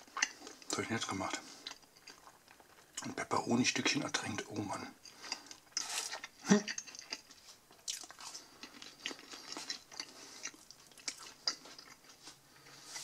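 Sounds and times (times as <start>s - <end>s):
person chewing crust: 0.0s - 3.2s, 5.0s - 13.0s.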